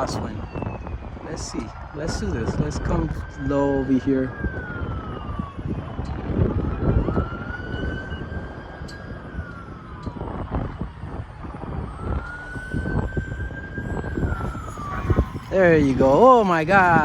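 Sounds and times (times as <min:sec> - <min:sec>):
wind buffeting microphone: 0:00.0 - 0:17.0
model jet ducted fans whining: 0:02.0 - 0:17.0.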